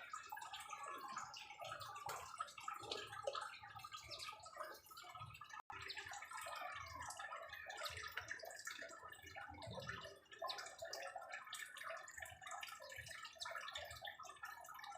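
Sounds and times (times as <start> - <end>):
songbirds chirping and twittering: 0.0 - 14.9.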